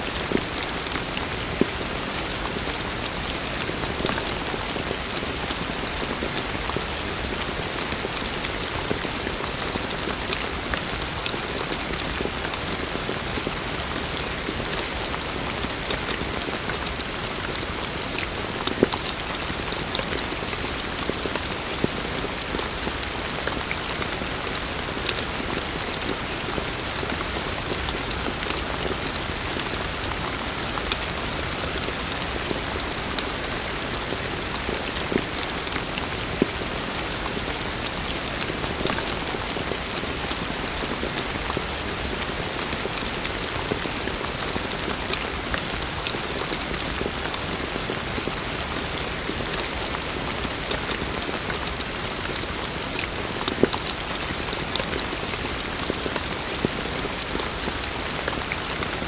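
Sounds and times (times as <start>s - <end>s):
raindrops ticking close by: 0.1s - 59.0s.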